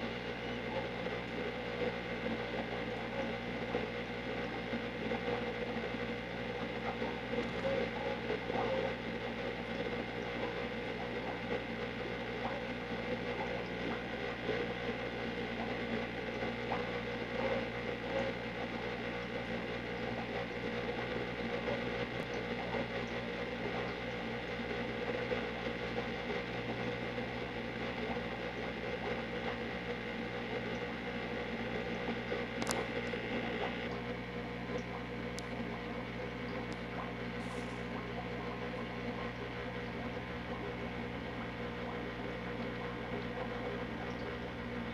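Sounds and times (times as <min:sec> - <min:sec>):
machine hum with hiss: 0:00.0 - 0:44.9.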